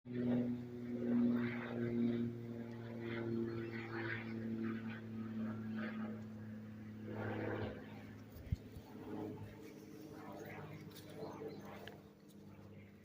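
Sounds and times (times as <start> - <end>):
vehicle engine humming: 0.1 - 13.0.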